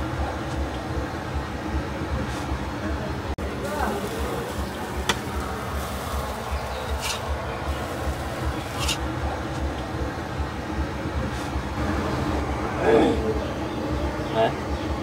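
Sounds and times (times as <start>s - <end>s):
low street rumble: 0.0s - 15.0s.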